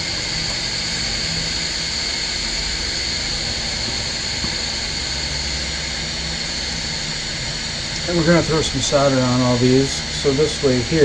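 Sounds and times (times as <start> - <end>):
hot air fan hiss: 0.0 - 11.0.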